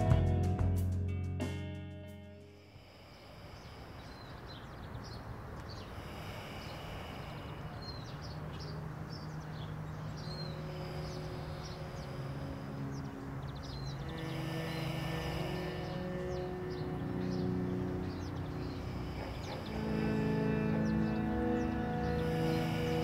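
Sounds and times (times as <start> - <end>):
outdoor ambient hiss: 0.0 - 23.0
small birds chirping: 2.5 - 23.0
low held tones: 3.9 - 23.0.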